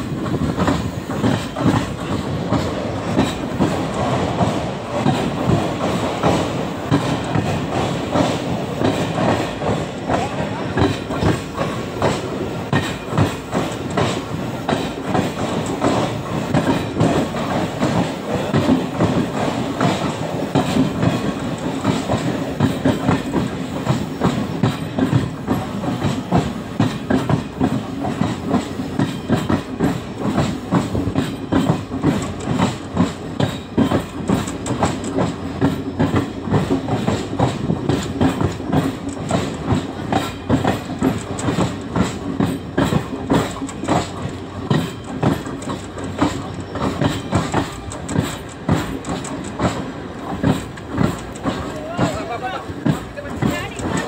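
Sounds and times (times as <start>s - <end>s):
rail joint clicks: 0.0s - 54.0s
steady train rumble: 0.0s - 54.0s
train wheels clattering on rails: 0.0s - 54.0s.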